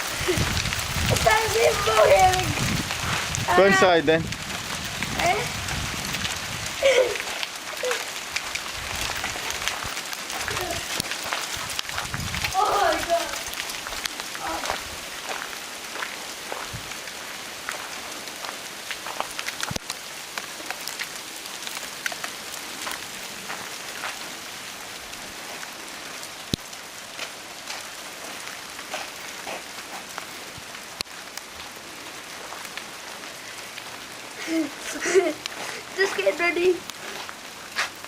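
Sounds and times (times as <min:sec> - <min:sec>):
hail falling: 0:00.0 - 0:38.0
hail ticking on hard surfaces: 0:00.0 - 0:38.0.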